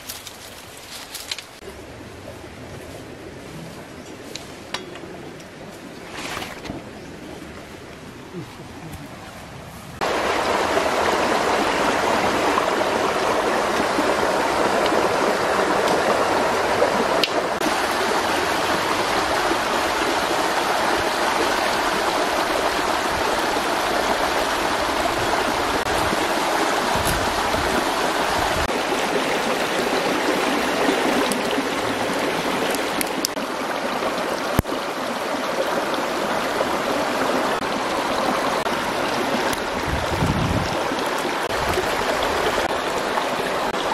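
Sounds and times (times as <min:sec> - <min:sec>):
stream water over rocks: 0:04.2 - 0:43.9.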